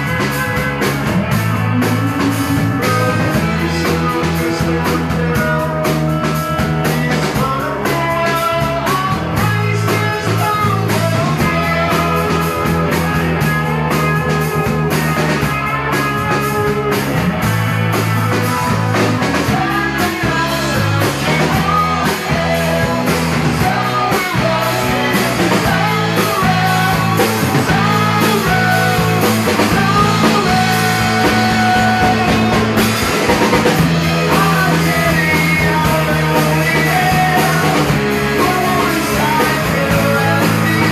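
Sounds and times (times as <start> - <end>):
man singing: 0.0 - 15.5, 18.3 - 40.9
rock band playing: 0.0 - 40.9.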